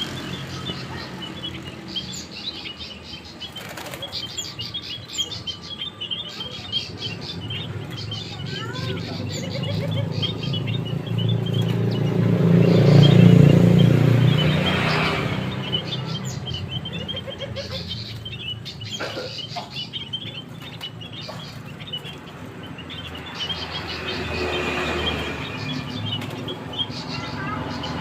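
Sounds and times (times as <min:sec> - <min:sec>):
vehicle passing: 0:00.0 - 0:18.9, 0:19.7 - 0:28.0
small birds chirping: 0:00.0 - 0:28.0.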